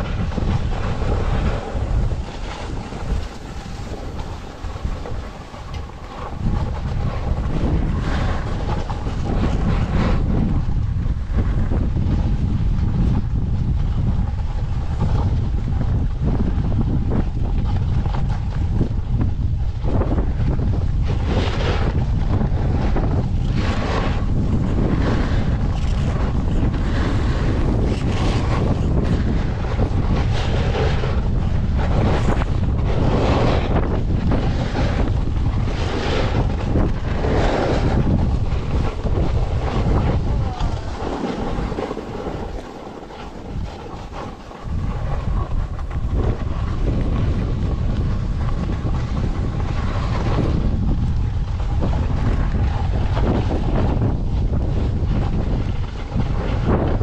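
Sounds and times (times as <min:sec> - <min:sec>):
skis scraping across snow: 0:00.0 - 0:57.0
wind buffeting microphone: 0:00.0 - 0:57.0.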